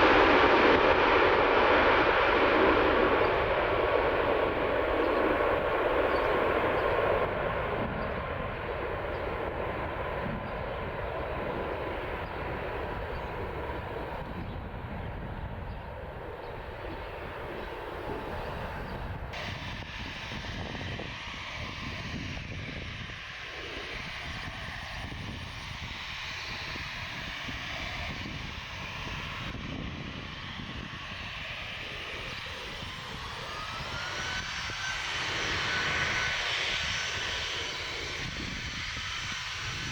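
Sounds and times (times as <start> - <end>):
aircraft engine whine: 0.0 - 39.9
airliner engines rumbling: 0.0 - 39.9.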